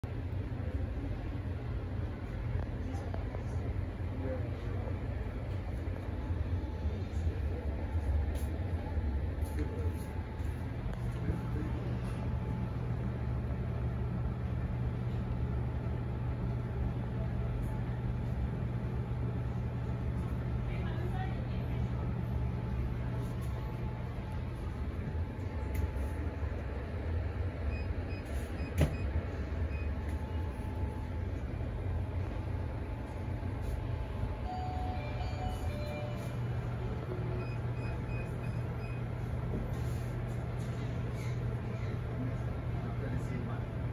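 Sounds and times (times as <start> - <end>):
indoor shop ambience: 0.0 - 43.9
steady low hum: 0.0 - 43.9.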